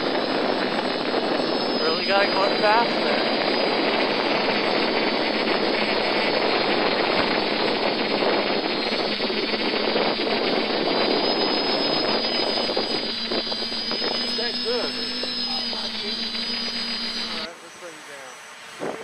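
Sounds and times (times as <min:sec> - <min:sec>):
drone motors and propellers rushing: 0:00.0 - 0:19.0.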